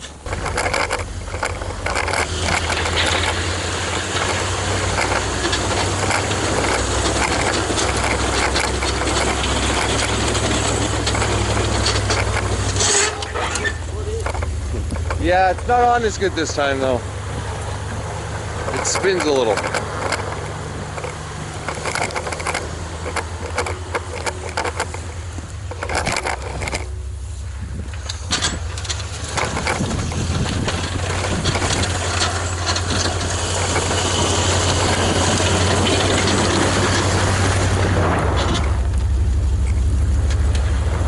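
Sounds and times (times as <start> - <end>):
knocks and rattles: 0.0 - 41.0
rushing noise: 0.0 - 41.0
truck engine running: 0.0 - 41.0.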